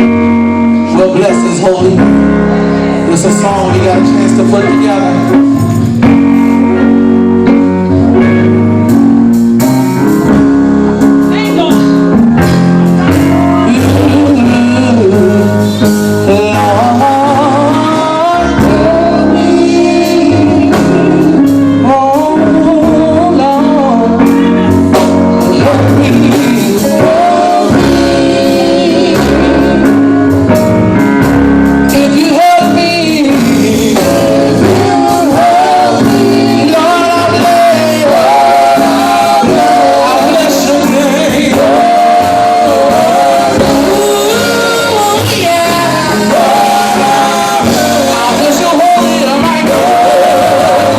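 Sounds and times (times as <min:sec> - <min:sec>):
man singing lead: 0:00.0 - 0:07.0, 0:13.0 - 0:30.1, 0:31.9 - 0:50.9
bass: 0:00.0 - 0:50.9
electric guitar: 0:00.0 - 0:50.9
drums: 0:03.1 - 0:50.9.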